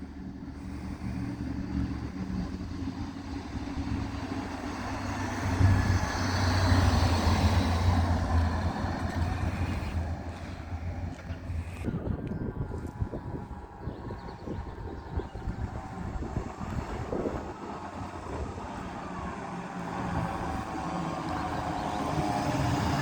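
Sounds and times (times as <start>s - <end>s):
diesel engine rumble: 0.0s - 23.0s
road noise: 0.0s - 23.0s.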